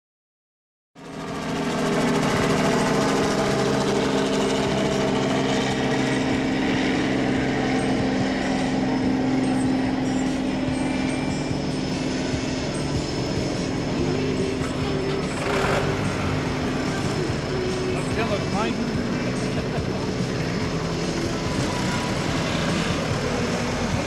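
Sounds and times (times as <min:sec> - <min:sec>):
aircraft tug engine running: 0:01.0 - 0:24.0.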